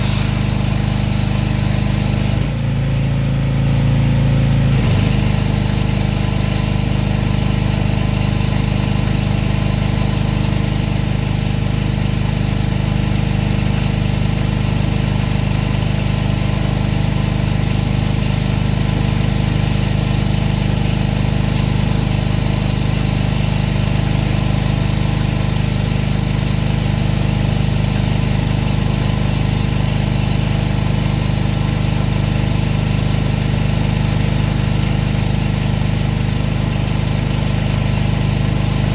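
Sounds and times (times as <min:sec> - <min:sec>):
hiss: 0:00.0 - 0:02.5, 0:04.6 - 0:38.9
pressure washer engine running: 0:00.0 - 0:38.9.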